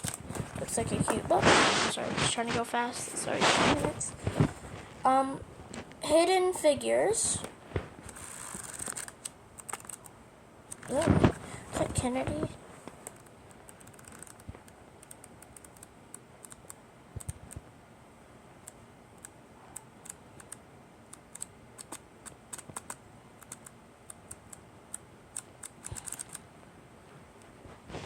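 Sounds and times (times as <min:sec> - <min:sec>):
low steady background hiss: 0:00.0 - 0:28.0.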